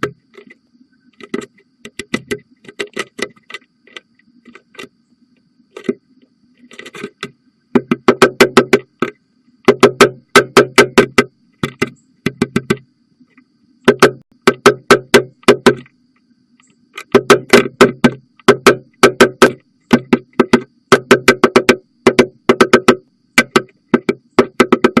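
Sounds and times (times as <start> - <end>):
woodpecker pecking wood: 0.0 - 5.0, 5.7 - 6.0, 6.6 - 25.0.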